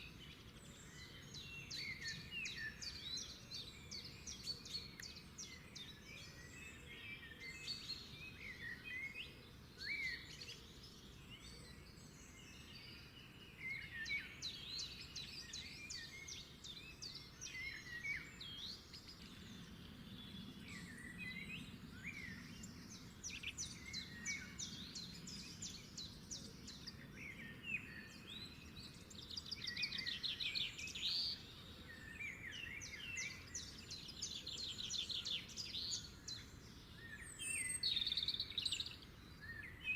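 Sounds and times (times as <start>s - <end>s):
birds chirping and singing: 0.0s - 39.9s
low steady hiss: 0.0s - 39.9s.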